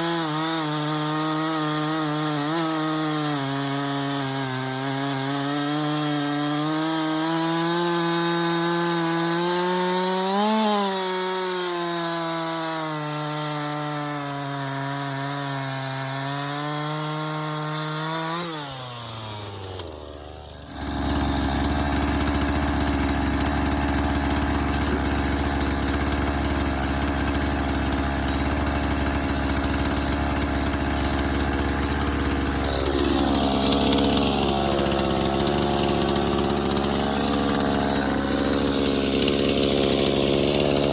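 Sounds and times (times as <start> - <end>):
chainsaw cutting wood: 0.0 - 40.9
chainsaw engine idling: 0.0 - 40.9.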